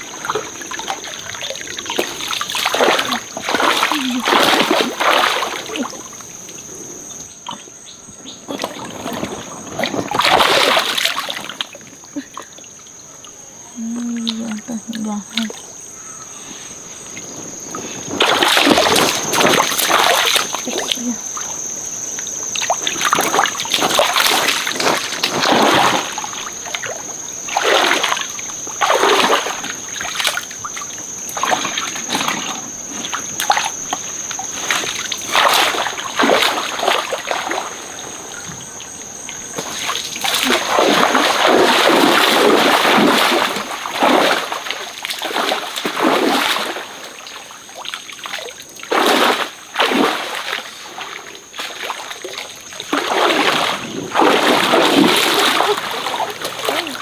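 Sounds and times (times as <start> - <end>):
stream water splashing: 0.0 - 6.7, 8.5 - 12.7, 17.0 - 57.0.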